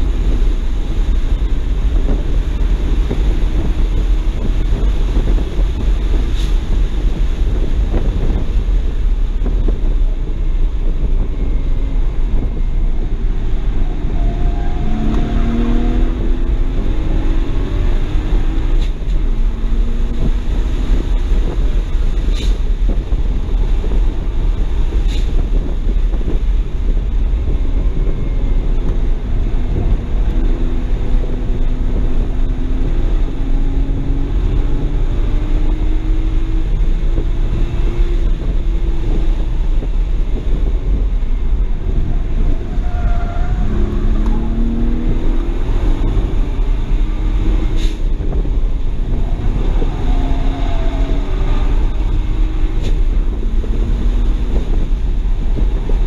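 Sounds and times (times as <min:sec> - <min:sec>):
car engine at speed: 0:00.0 - 0:56.0
wind and road noise: 0:00.0 - 0:56.0.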